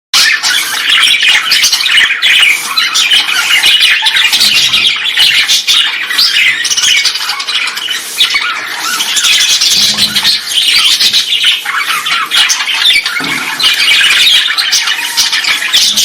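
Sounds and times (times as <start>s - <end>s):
aviary birds chattering: 0.2s - 16.0s.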